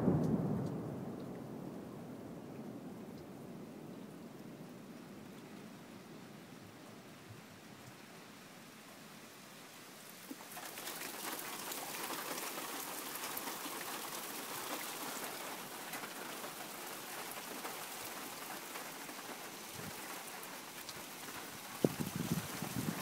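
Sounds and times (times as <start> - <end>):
heavy rain falling: 0.0 - 23.0
raindrops ticking close by: 0.0 - 23.0.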